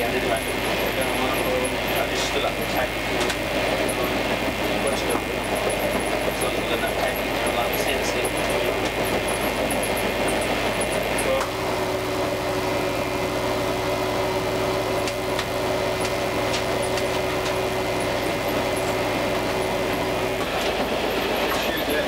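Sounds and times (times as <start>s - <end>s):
diesel engine drone: 0.0s - 22.0s
humming tones: 0.0s - 22.0s.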